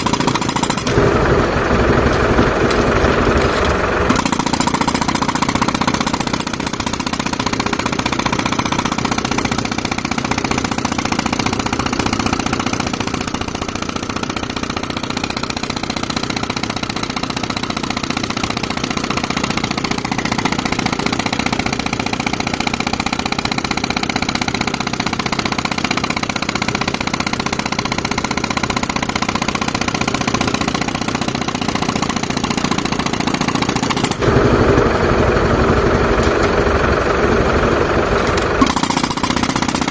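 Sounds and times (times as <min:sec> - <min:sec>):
tractor engine pulsing: 0:00.0 - 0:39.9.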